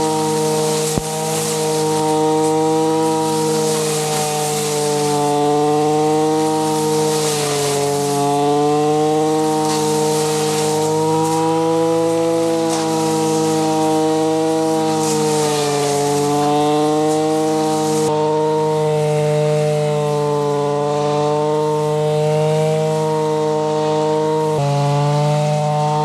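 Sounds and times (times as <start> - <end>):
brush cutter engine at high revs: 0.0 - 26.0
grass being cut swishing: 0.0 - 26.0.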